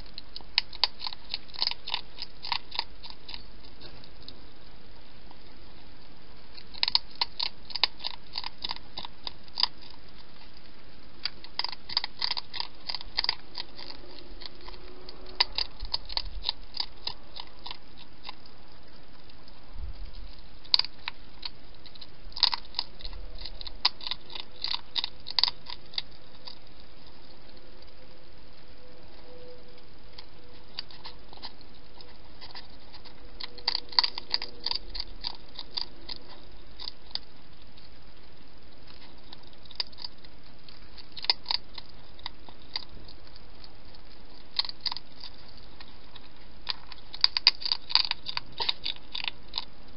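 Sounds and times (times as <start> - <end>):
hedgehog chewing food: 0.0 - 49.9.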